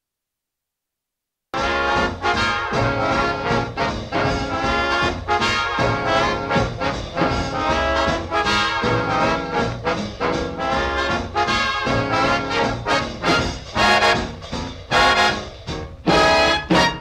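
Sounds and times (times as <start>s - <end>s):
brass instrumental music: 1.6s - 17.0s.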